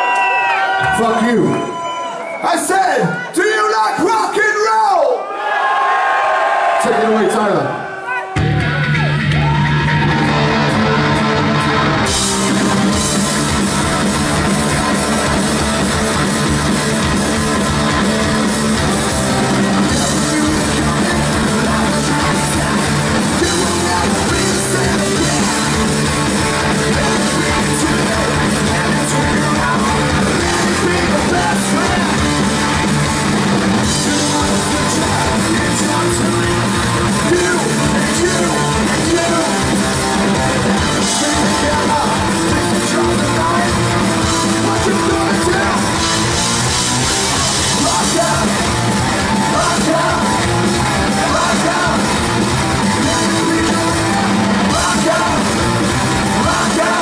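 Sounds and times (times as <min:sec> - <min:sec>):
hard rock band playing live: 0:08.3 - 0:57.0.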